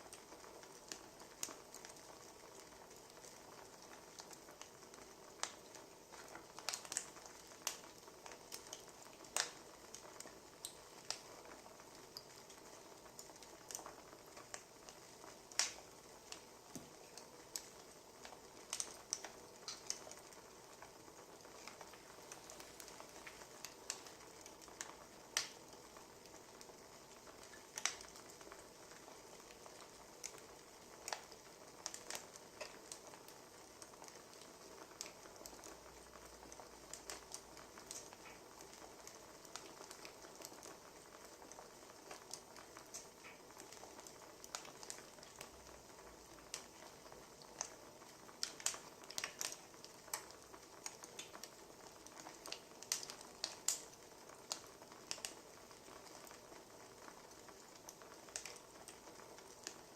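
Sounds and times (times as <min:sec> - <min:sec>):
faint steady hiss: 0:00.0 - 0:59.9
wood fire snaps and pops: 0:00.0 - 0:59.9.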